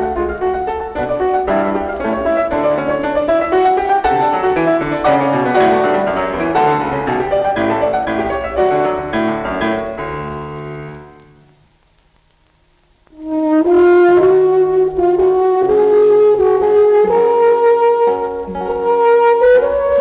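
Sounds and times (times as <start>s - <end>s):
classical keyboard music: 0.0s - 11.6s, 14.2s - 20.0s.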